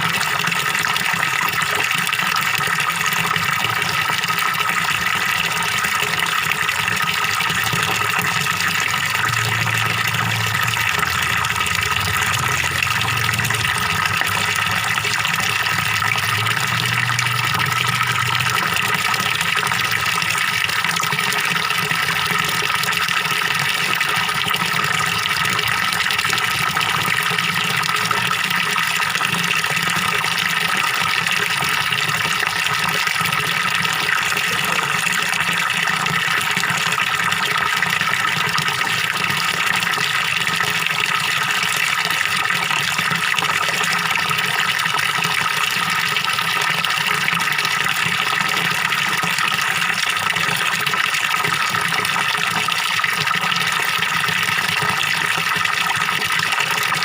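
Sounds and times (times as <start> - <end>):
small waterfall pouring into pond: 0.0 - 57.0.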